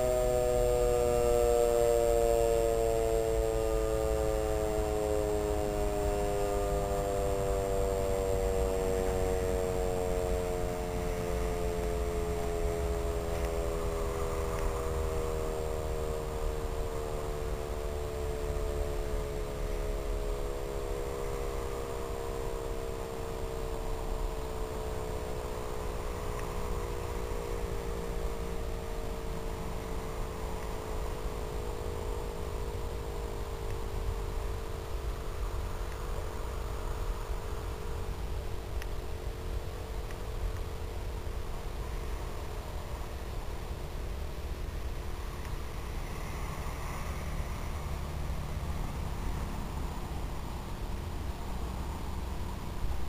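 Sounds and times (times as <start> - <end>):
electric motor siren winding down: 0.0 - 50.4.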